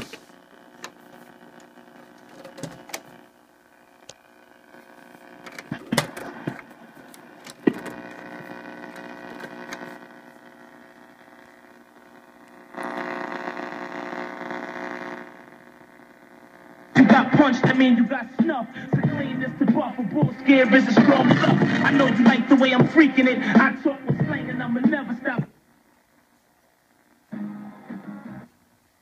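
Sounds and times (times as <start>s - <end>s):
radio crackles: 0.0s - 29.0s
radio static hiss: 0.0s - 29.0s.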